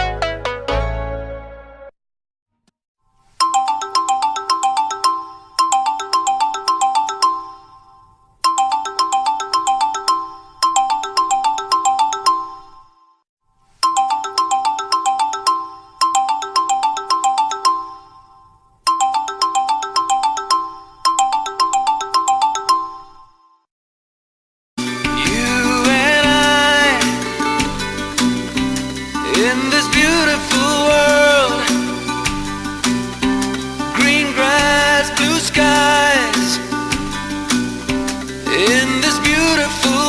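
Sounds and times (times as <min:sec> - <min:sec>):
mobile phone ringtone trills: 0:03.3 - 0:13.2, 0:13.8 - 0:23.6, 0:24.8 - 0:40.0.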